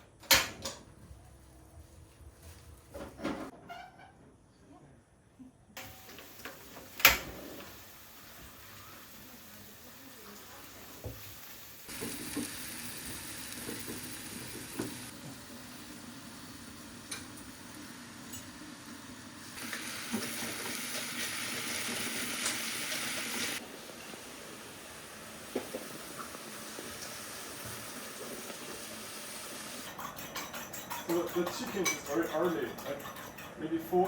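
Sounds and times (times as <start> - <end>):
food sizzling in a pan: 5.8 - 33.4.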